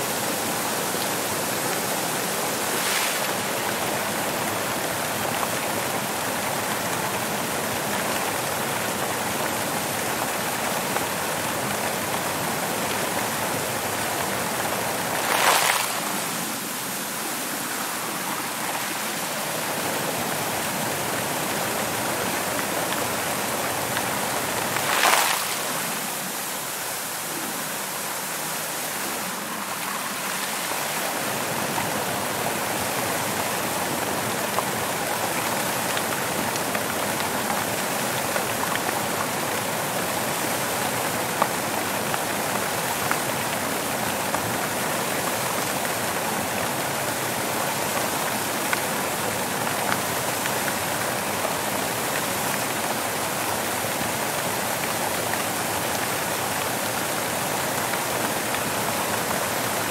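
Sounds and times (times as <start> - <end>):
fountain water splashing into pool: 0.0 - 59.9.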